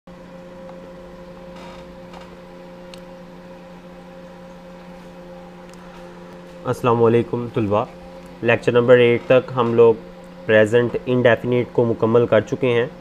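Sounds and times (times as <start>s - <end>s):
electrical hum: 0.1s - 13.0s.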